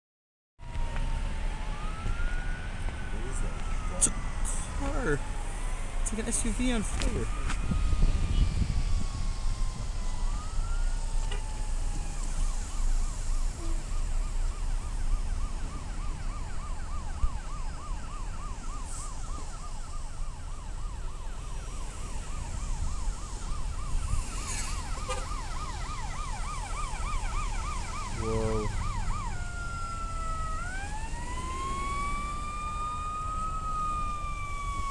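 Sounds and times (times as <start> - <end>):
emergency vehicle siren: 0.6 - 34.9
low traffic rumble: 0.6 - 34.9.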